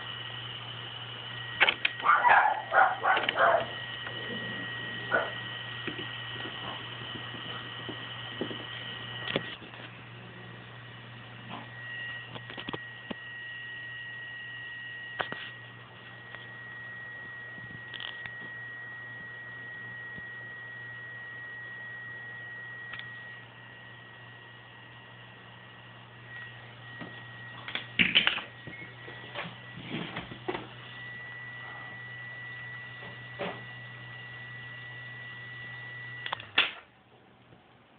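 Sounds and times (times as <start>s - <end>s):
electric fan humming: 0.0s - 37.9s.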